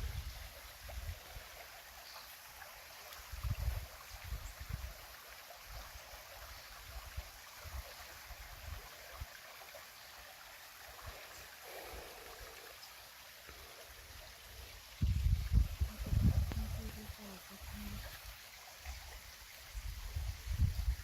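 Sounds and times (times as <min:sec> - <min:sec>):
water flowing: 0:00.0 - 0:21.0.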